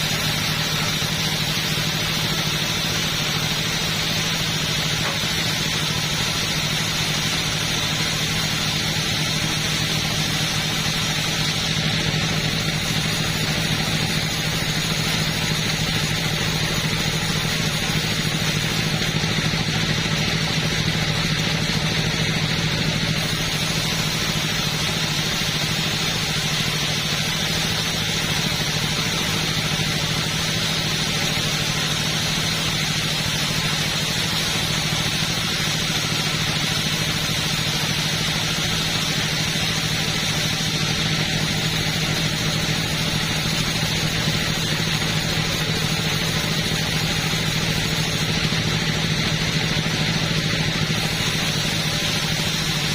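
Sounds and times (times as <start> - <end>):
chainsaw engine running: 0.0 - 52.9.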